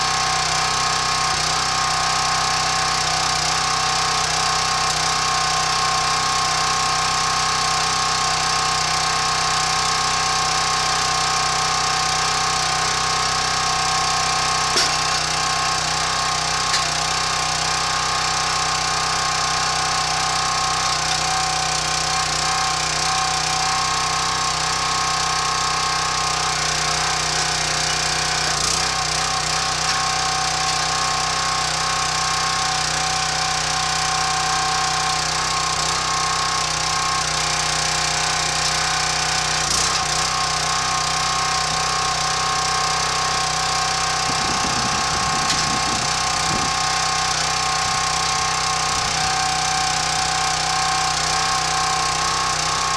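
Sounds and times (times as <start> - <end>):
log splitter engine running: 0.0 - 52.9.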